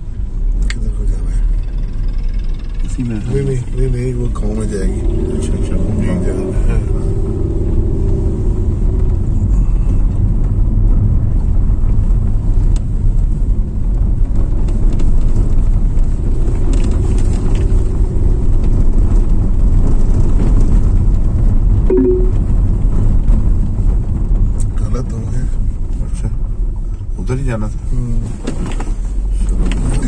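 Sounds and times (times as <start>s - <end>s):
car engine and tyre rumble: 0.0s - 30.0s.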